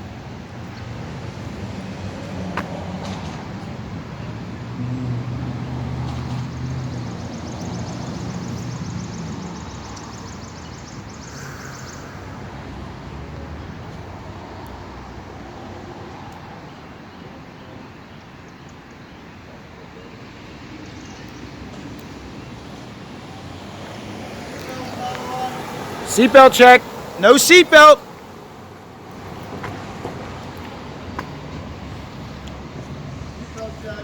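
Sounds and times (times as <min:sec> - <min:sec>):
outdoor traffic noise: 0:00.0 - 0:34.0.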